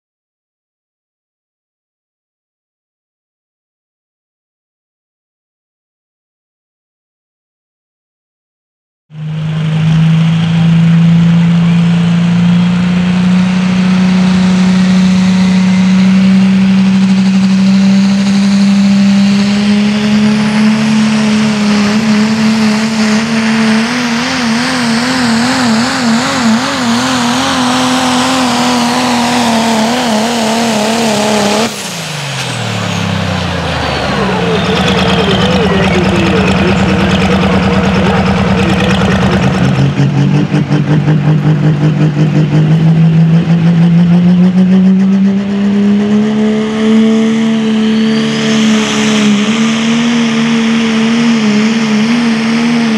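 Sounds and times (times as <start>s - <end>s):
diesel truck engine at full throttle: 9.1s - 52.9s.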